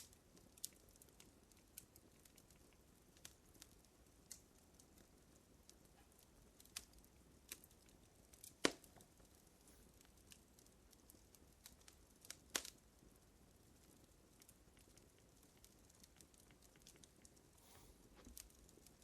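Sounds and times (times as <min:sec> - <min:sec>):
faint hiss: 0:00.0 - 0:19.0
fire crackling and popping: 0:00.0 - 0:19.0.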